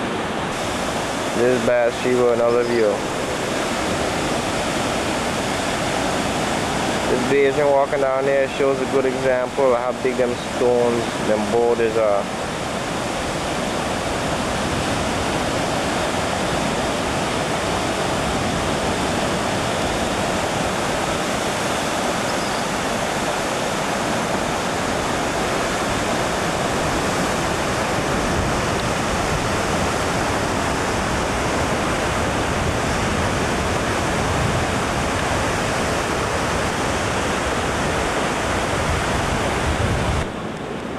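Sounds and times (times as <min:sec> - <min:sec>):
surf breaking on shore: 0:00.0 - 0:40.9.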